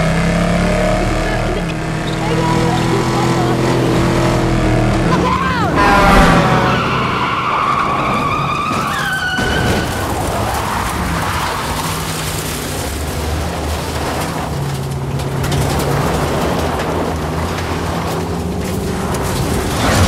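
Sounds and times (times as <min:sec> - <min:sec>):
car engines running hard: 0:00.0 - 0:20.0
engine and road noise: 0:00.0 - 0:20.0
tires squealing: 0:00.0 - 0:20.0.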